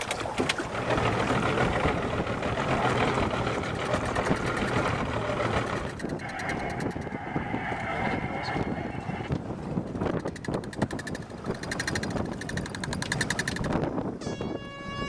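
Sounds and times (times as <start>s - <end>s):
boat motor running: 0.0s - 14.5s
water noise: 0.0s - 14.6s
wind: 0.0s - 15.0s.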